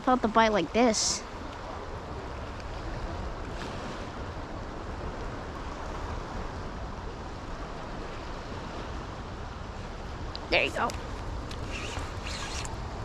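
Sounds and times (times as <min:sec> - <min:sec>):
steady wind: 0:00.0 - 0:13.0.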